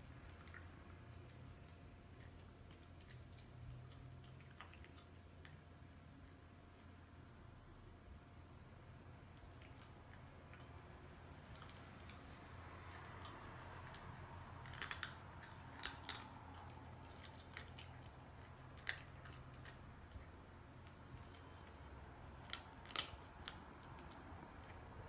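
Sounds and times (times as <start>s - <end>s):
cat crunching dry kibble: 0.0s - 5.5s, 9.3s - 25.0s.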